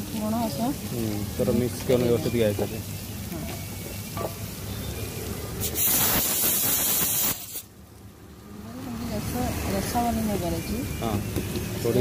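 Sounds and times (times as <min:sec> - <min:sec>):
paste frying in a pot: 0:00.0 - 0:09.7
loud sizzling hiss: 0:00.0 - 0:12.0.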